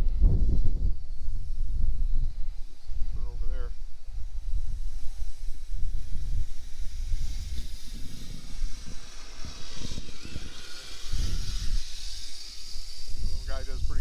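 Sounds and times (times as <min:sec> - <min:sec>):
toy electric motor whining: 0:00.0 - 0:14.0
wind rumbling on microphone: 0:00.0 - 0:14.0.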